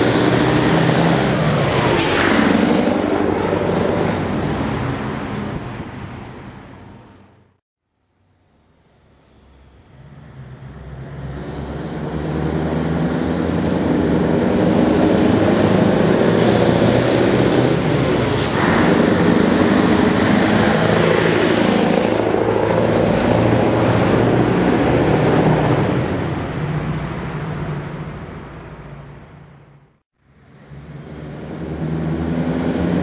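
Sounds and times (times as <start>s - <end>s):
diesel truck engine passing by: 0.0s - 7.1s, 9.1s - 29.3s, 30.3s - 33.0s.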